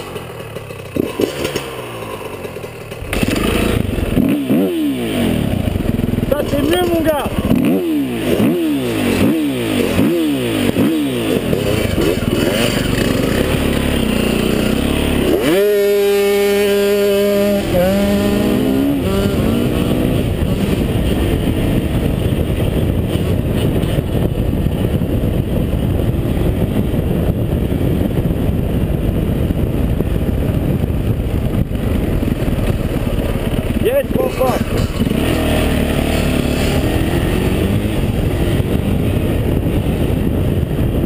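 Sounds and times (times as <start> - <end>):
dirt bike engine revving: 0.0 - 28.4, 30.2 - 40.2
wind noise on camera: 3.0 - 41.0.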